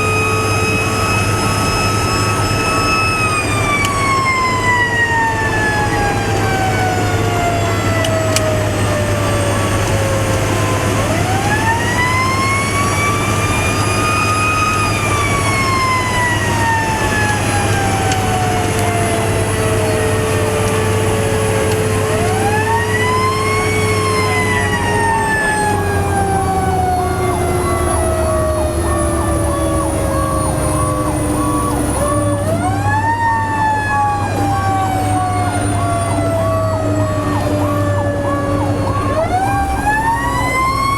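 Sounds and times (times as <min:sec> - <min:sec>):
fire truck siren wailing: 0:00.0 - 0:40.9
truck engine drone: 0:00.0 - 0:40.9.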